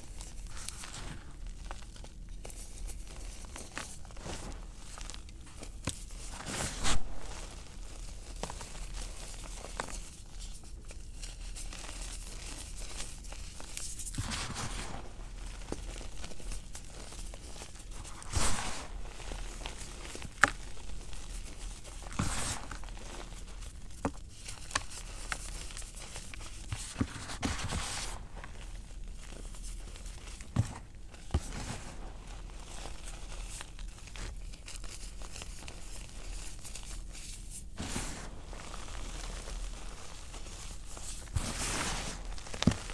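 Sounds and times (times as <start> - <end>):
hands crumbling chalk in powder: 0.0 - 42.9.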